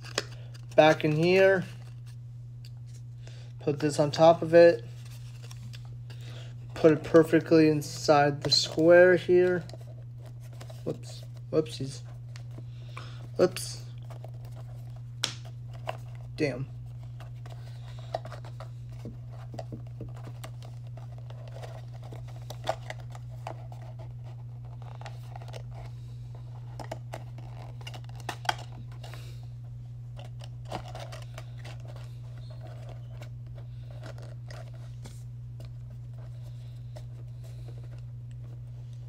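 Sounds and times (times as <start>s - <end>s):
steady low hum: 0.0s - 39.0s
cardboard packaging rustling: 4.8s - 39.0s.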